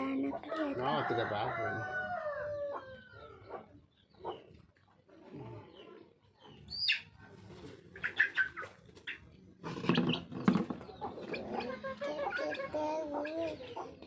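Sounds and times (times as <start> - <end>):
chickens calling: 0.0 - 14.0
chicken clucking: 0.2 - 14.0.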